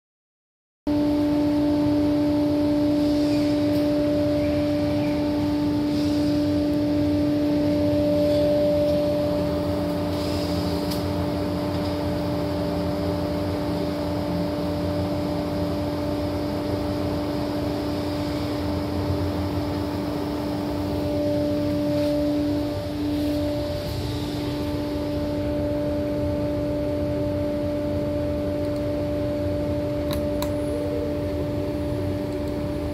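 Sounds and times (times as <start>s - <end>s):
router spindle whine: 0.9s - 32.9s.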